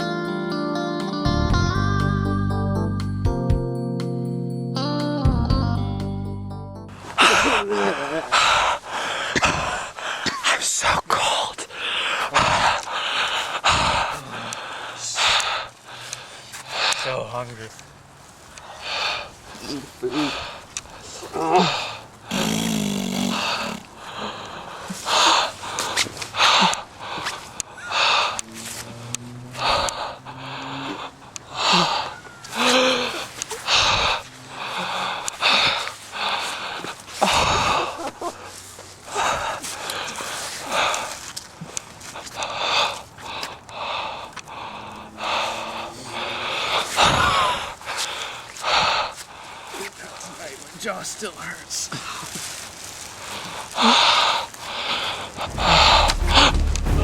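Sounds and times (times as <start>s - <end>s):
person breathing heavily: 7.0s - 17.2s, 18.5s - 50.2s, 52.9s - 57.0s.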